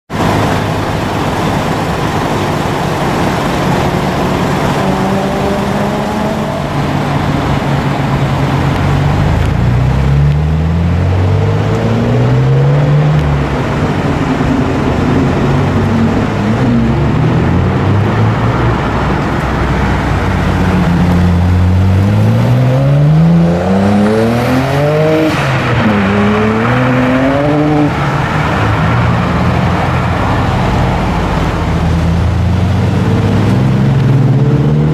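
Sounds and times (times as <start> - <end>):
car engines accelerating hard: 0.1 - 34.9
road and exhaust noise: 0.1 - 34.9.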